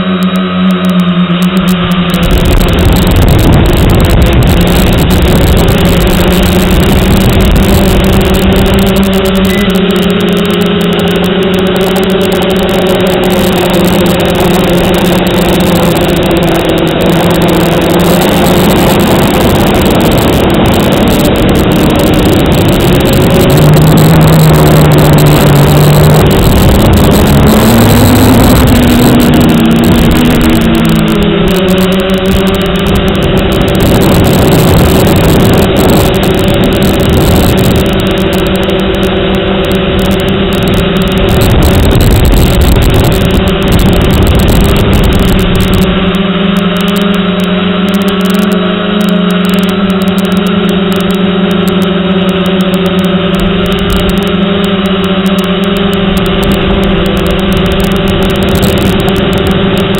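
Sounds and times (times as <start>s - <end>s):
quadcopter propellers buzzing: 0.0s - 59.9s.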